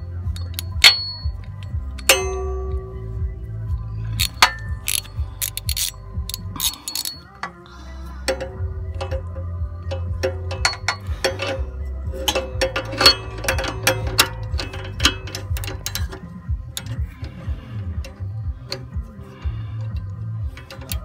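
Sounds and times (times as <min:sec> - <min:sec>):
steady low hum: 0:00.0 - 0:21.0
ratcheting wrench clicking: 0:00.2 - 0:02.8, 0:04.1 - 0:07.6, 0:08.2 - 0:21.0.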